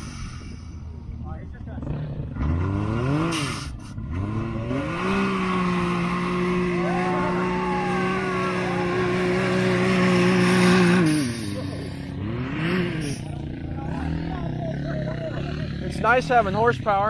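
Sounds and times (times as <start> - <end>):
engine revving hard: 1.7 - 17.0.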